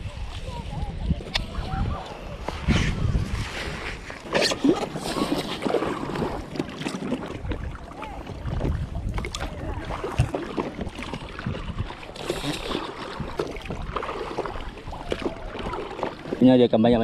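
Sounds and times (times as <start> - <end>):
wind on microphone: 0.0 - 6.4, 7.1 - 17.0
oars rowing: 0.0 - 17.0
water sloshing around boat: 0.0 - 17.0.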